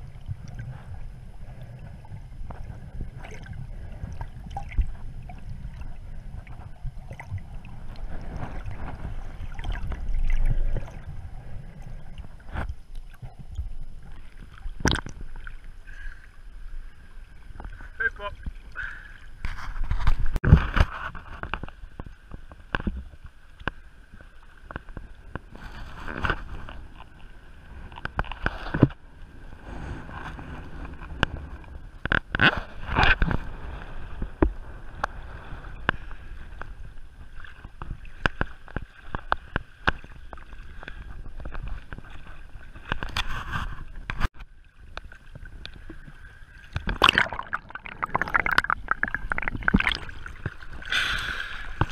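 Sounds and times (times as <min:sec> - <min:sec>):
seawater sloshing and splashing: 0:00.0 - 0:23.4, 0:24.1 - 0:51.9.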